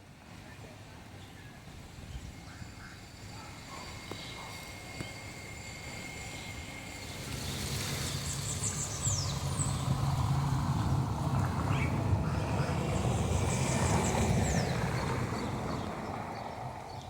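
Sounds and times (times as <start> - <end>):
engine running: 1.5 - 17.0.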